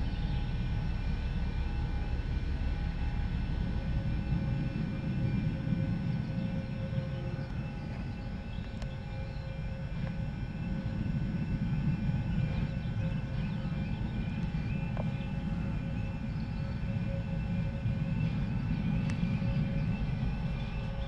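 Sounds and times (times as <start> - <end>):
train rumble: 0.0 - 21.0
whining tones: 0.0 - 21.0.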